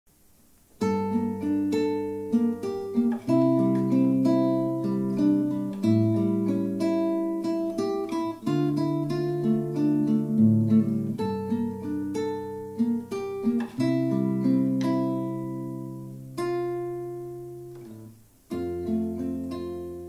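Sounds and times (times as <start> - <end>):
acoustic guitar melody: 0.6 - 20.0.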